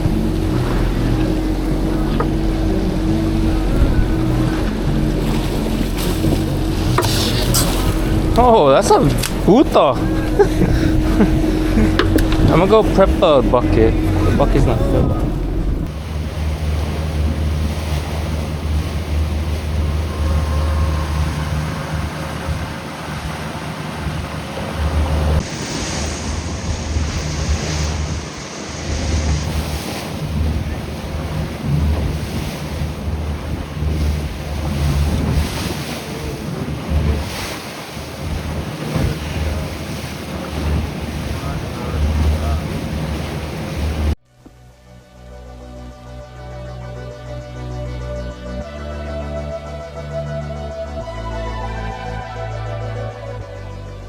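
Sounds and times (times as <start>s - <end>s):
sea water washing around boat: 0.0s - 44.2s
wind buffeting microphone: 0.0s - 44.2s.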